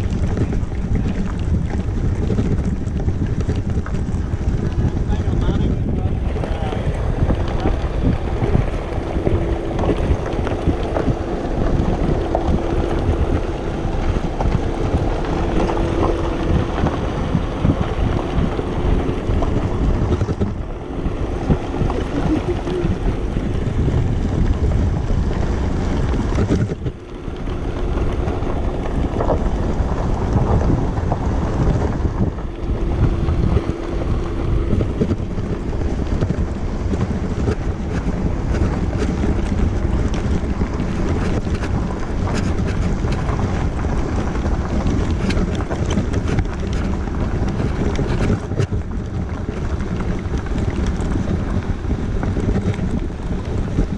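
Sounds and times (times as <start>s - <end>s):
faint steady hum: 0.0s - 53.9s
wheelchair rumbling over bumpy grass: 0.0s - 53.9s
wind buffeting microphone: 0.0s - 53.9s.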